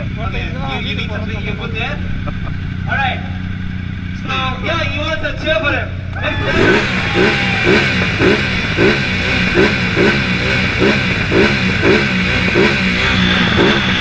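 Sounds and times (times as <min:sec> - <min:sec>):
motorcycle engine revving: 0:00.0 - 0:05.4, 0:06.0 - 0:14.0.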